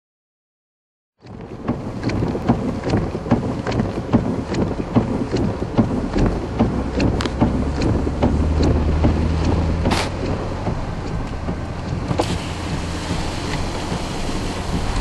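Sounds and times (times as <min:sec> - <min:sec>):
low rumble: 0:01.2 - 0:15.0
wind: 0:01.2 - 0:15.0
heavy rain: 0:01.5 - 0:15.0
sharp regular ticking: 0:01.6 - 0:15.0.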